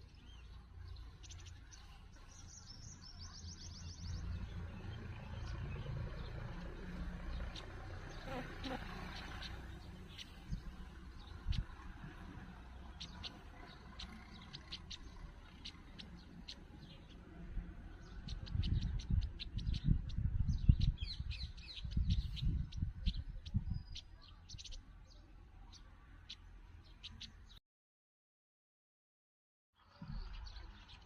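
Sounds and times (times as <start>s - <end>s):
small bird chirping: 0.1s - 11.8s, 12.9s - 17.2s, 17.9s - 27.6s.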